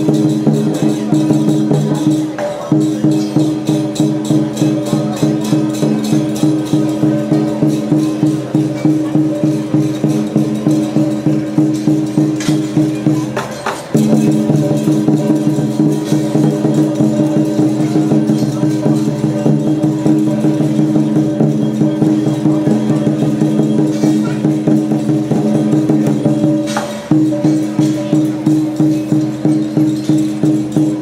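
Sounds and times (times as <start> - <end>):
cymbals crashing: 0.0 - 31.0
drum beating: 0.0 - 31.0.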